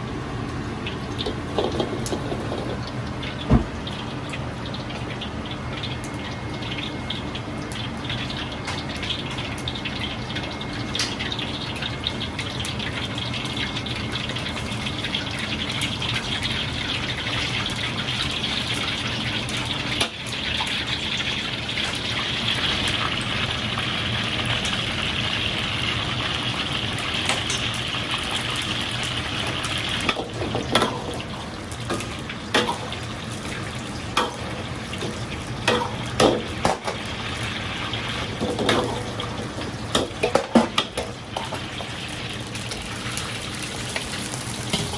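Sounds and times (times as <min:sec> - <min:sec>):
deep-frying in hot oil: 0:00.0 - 0:44.9.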